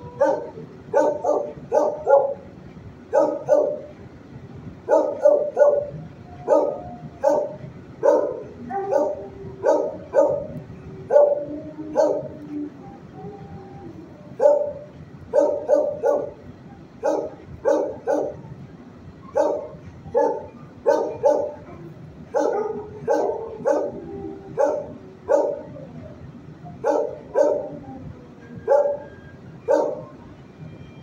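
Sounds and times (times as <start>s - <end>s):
dogs barking: 0.0s - 2.5s, 3.1s - 4.0s, 4.8s - 12.5s, 14.1s - 18.6s, 19.3s - 25.9s, 26.8s - 28.0s, 28.6s - 30.2s.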